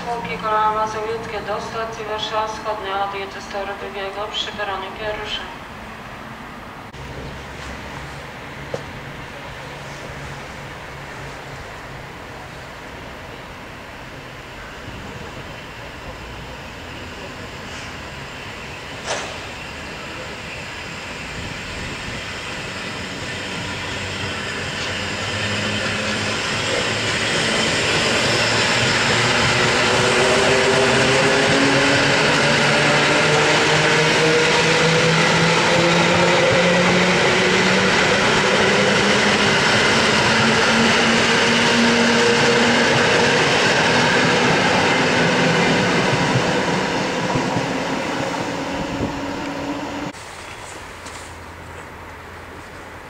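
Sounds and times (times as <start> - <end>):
wheel and rail rumble: 3.5 - 53.0.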